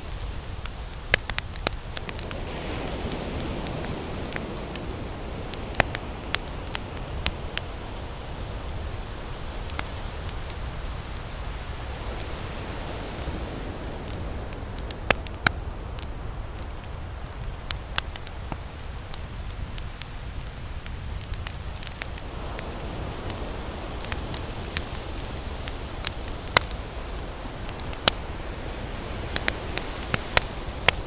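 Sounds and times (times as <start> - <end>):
sharp fire pops: 0.0 - 11.6, 12.2 - 31.0
low rush of surf: 0.0 - 17.8, 21.6 - 31.0
campfire crackling: 0.0 - 31.0.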